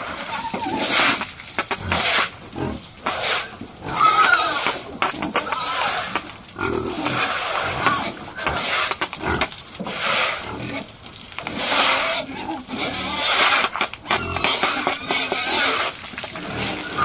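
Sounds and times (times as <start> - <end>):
pigs squealing: 0.0 - 1.2, 1.8 - 10.9, 11.5 - 17.0.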